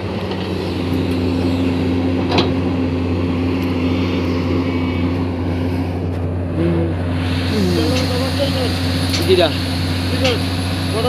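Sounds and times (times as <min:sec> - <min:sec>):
excavator diesel engine drone: 0:00.0 - 0:11.0.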